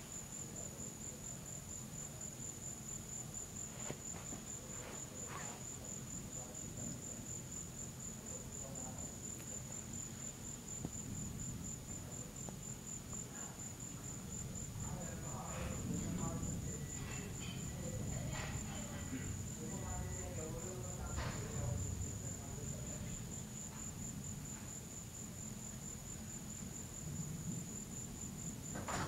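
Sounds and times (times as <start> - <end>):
crickets trilling: 0.0 - 29.0
low background noise: 0.0 - 29.0.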